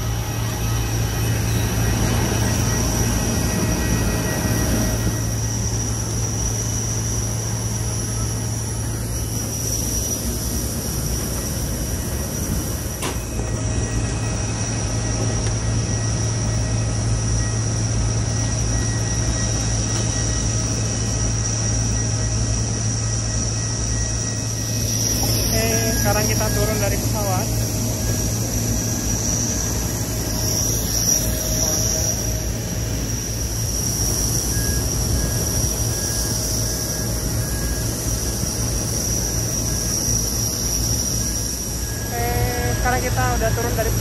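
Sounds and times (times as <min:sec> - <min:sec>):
low aircraft hum: 0:00.0 - 0:44.0
thin high whine: 0:00.0 - 0:44.0.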